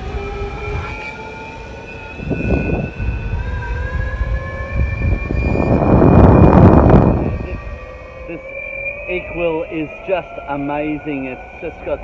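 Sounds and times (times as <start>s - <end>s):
electric skateboard motors whining: 0.0s - 12.0s
low road rumble: 0.0s - 12.0s
rushing noise: 0.4s - 12.0s.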